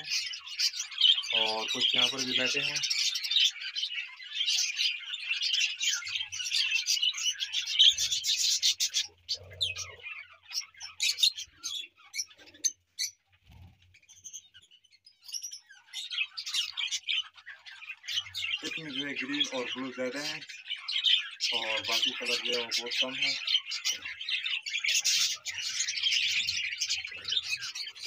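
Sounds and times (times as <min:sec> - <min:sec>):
budgerigars chattering and chirping: 0:00.0 - 0:28.0.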